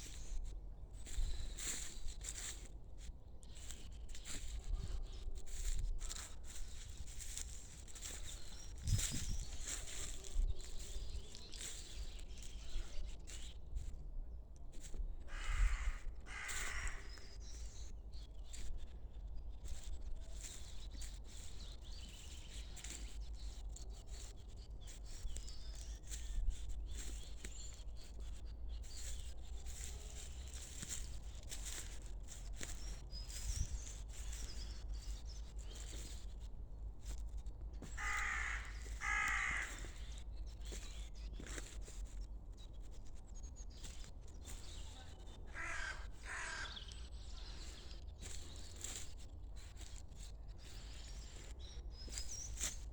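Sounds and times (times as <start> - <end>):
birds chirping and calling: 0.0 - 2.7, 3.4 - 13.9, 14.8 - 18.8, 19.6 - 52.9.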